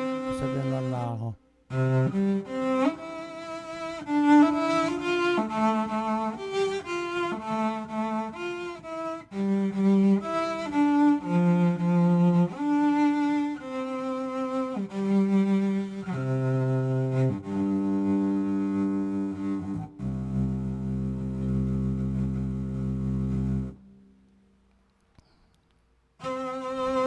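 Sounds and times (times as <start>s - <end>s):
sampled cello melody: 0.0s - 24.1s, 26.2s - 27.0s.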